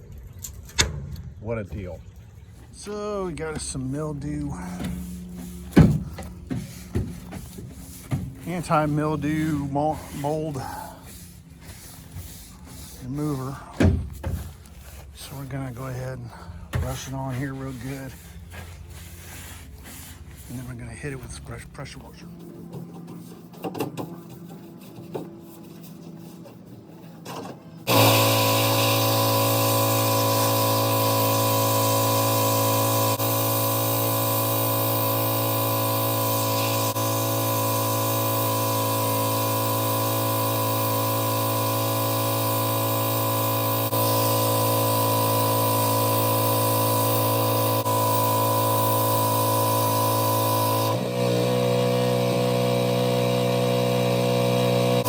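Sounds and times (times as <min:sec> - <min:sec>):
pressure washer running: 0:02.7 - 0:22.7, 0:27.8 - 0:55.0.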